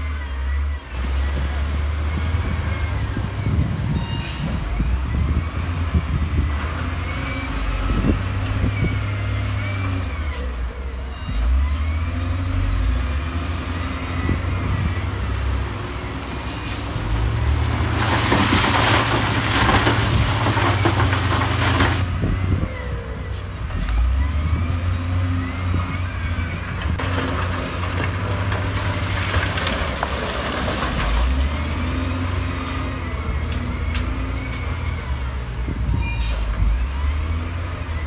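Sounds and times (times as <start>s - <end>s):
diesel machinery engine running: 0.0s - 38.0s.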